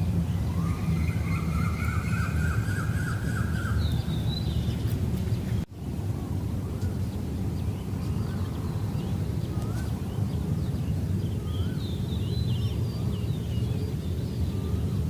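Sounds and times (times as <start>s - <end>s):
small birds chirping: 0.0s - 5.7s, 6.6s - 15.0s
distant traffic: 0.0s - 15.0s
wind: 0.0s - 15.0s.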